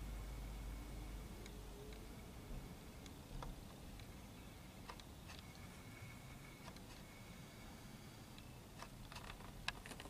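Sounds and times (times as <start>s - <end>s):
faint thin hum: 0.0s - 9.1s
background hiss: 0.0s - 10.0s.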